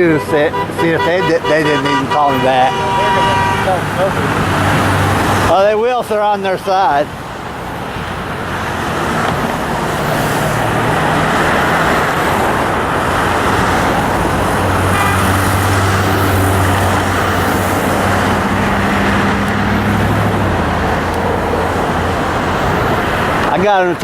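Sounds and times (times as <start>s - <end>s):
freeway traffic rushing: 0.0s - 24.0s
heavy vehicle engine hum: 0.0s - 24.0s.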